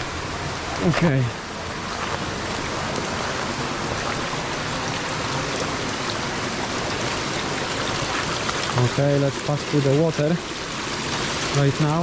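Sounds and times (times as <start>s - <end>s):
stream water running over rocks: 0.0s - 12.0s.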